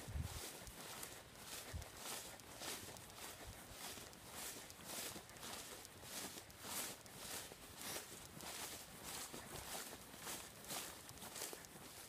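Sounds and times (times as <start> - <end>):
footsteps through tall grass: 0.0 - 12.0.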